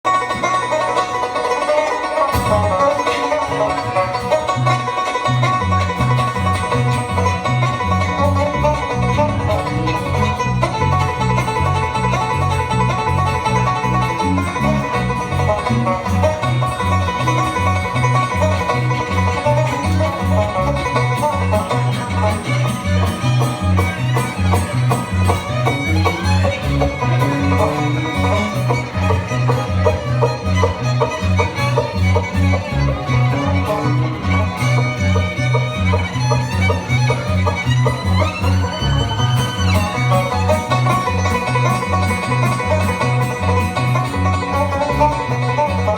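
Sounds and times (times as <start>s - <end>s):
banjo: 0.0s - 45.9s
fiddle: 0.0s - 45.9s
guitar: 0.0s - 45.9s
bass line: 2.3s - 45.9s.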